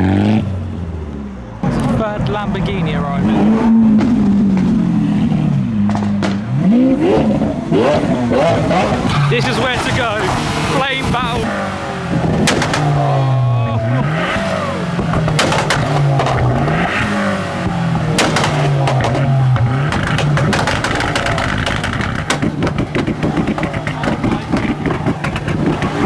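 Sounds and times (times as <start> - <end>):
car engines revving: 0.0 - 26.0
exhaust bangs and pops: 1.6 - 26.0.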